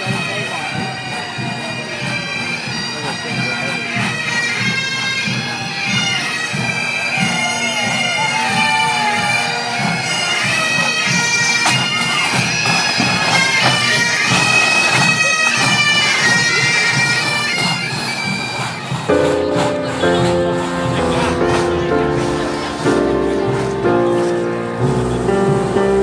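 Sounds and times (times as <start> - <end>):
bagpipes playing a tune: 0.0 - 26.0.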